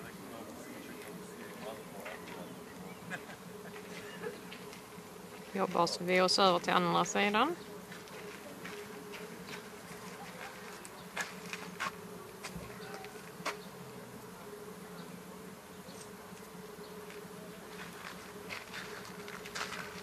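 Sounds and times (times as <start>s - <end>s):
steady buzzing hum: 0.0s - 20.0s.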